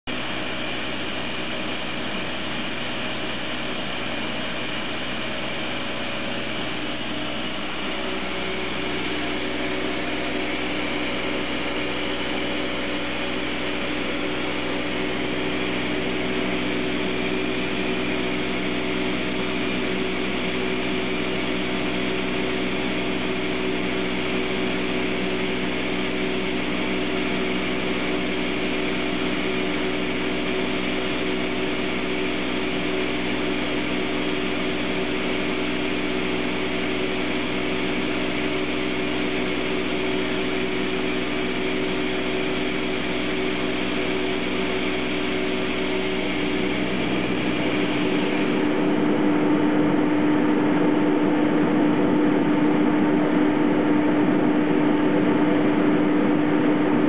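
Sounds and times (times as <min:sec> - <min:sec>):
air compressor humming: 0:00.1 - 0:57.0.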